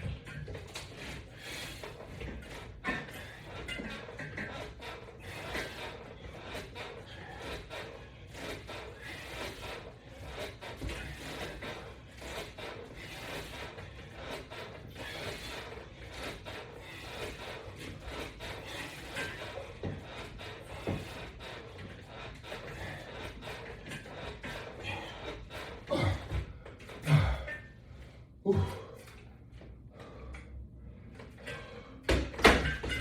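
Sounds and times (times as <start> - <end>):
exercise equipment creaking: 0.0 - 33.0.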